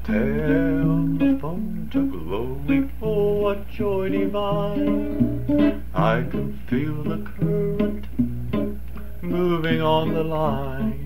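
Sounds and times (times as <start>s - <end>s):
man singing: 0.0s - 8.3s, 9.1s - 11.0s
steady low hum: 0.0s - 11.0s
strummed acoustic guitar: 0.0s - 11.0s.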